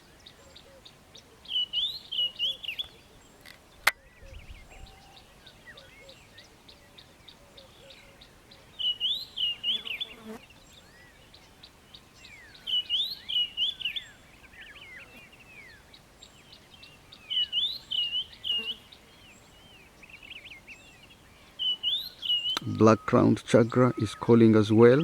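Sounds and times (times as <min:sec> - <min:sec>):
birds twittering and calling: 0:00.0 - 0:25.0.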